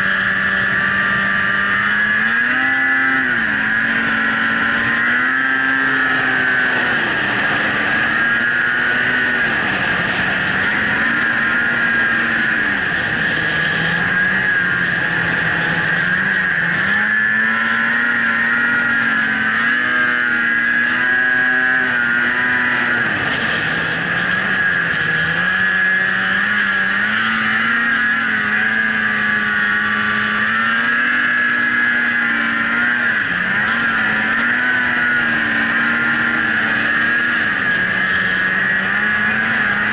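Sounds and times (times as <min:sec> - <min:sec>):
high-pitched whine: 0:00.0 - 0:39.9
snowmobile engine revving: 0:00.0 - 0:39.9.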